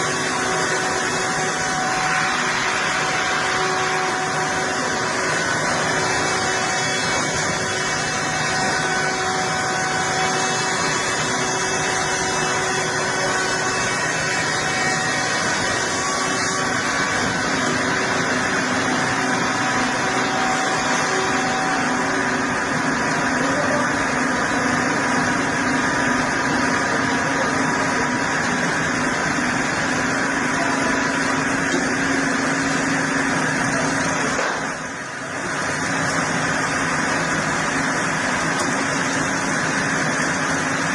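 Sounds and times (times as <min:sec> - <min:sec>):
heavy machinery drone: 0:00.0 - 0:40.9.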